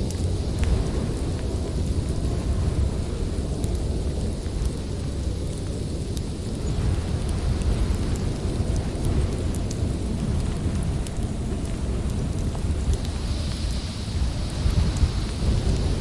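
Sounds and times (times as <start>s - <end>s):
strong wind buffeting: 0.0s - 16.0s
wood fire crackles: 0.0s - 16.0s.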